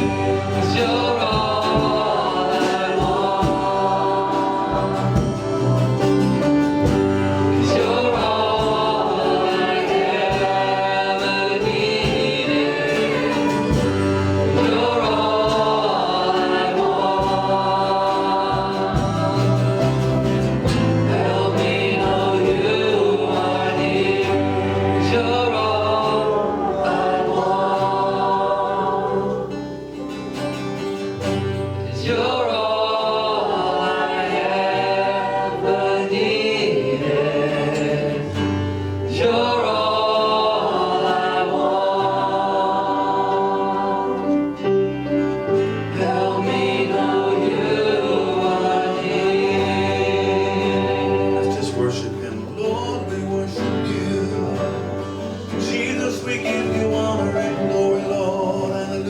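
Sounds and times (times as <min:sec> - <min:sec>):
congregation singing: 0:00.0 - 0:59.0
guitar and bass: 0:00.0 - 0:59.0.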